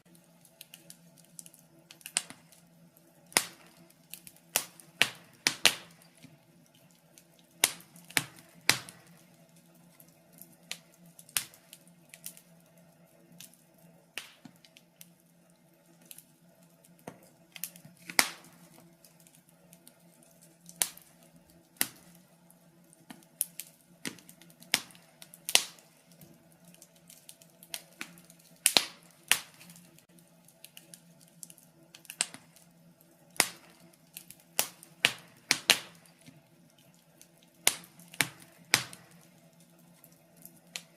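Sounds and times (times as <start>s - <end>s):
quiet low hum: 0.0s - 40.9s
wood fire crackling and popping: 0.0s - 40.9s.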